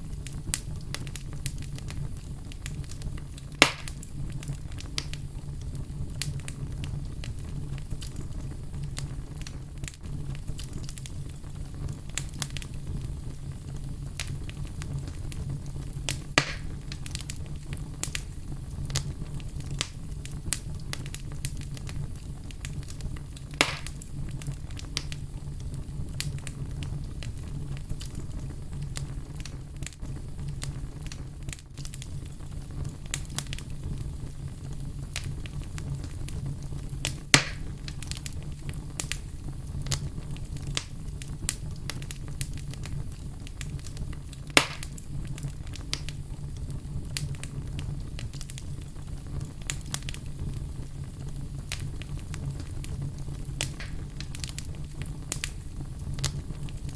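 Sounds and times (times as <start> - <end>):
fire crackling and popping: 0.0 - 56.9.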